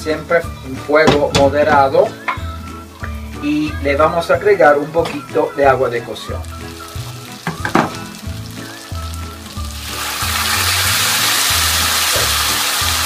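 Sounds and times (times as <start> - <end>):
background music: 0.0 - 13.0
water sizzling in hot oil: 0.0 - 13.0.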